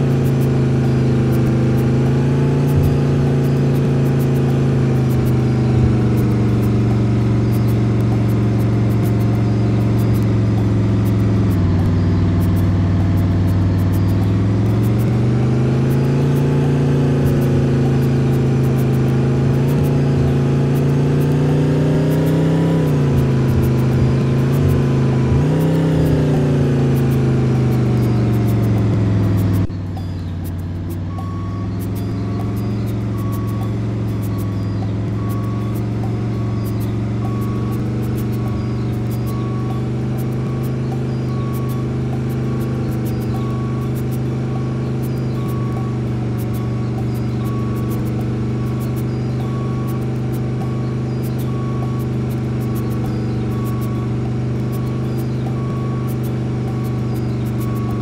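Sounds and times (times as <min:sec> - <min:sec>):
bus engine running: 0:00.0 - 0:58.0.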